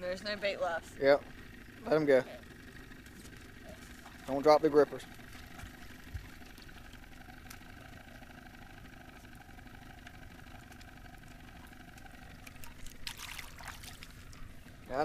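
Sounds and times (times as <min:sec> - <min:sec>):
boat motor idling: 0:00.0 - 0:15.0.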